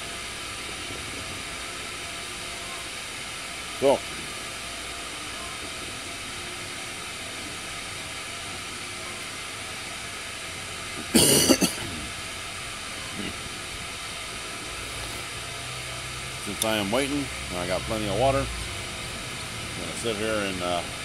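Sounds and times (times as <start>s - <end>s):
canister stove hissing: 0.0s - 21.0s.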